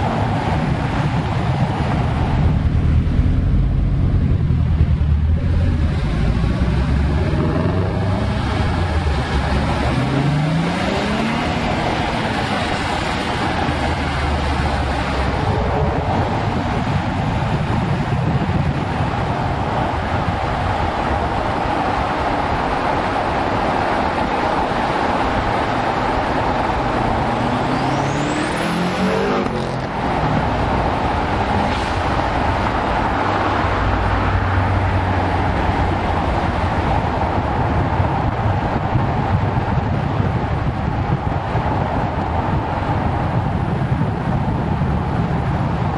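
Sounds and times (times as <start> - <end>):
road and wind noise: 0.0 - 45.9
car engine accelerating: 0.9 - 18.0, 19.8 - 43.6.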